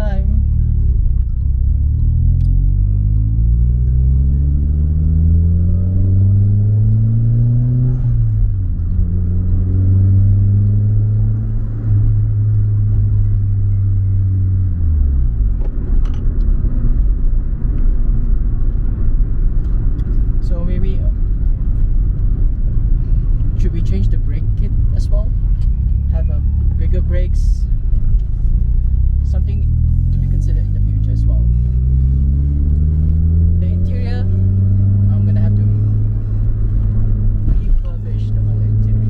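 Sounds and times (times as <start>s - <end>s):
car engine revving: 0.0s - 39.0s
road rumble: 0.0s - 39.0s.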